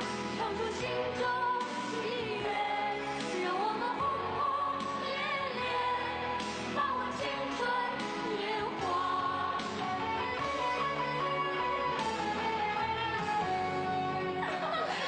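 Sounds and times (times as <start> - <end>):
instrumental backing music: 0.0 - 15.0.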